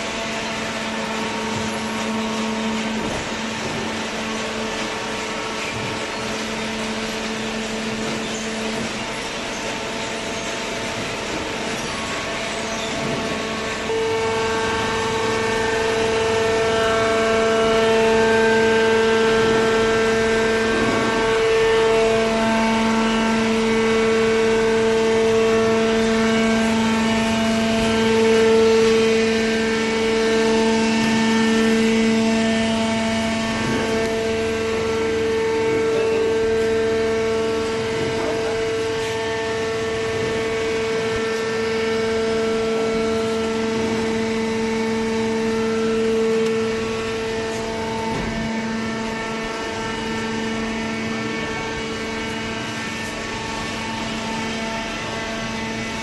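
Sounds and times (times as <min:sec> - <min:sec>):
hydraulic pump whining hum: 0:00.0 - 0:56.0.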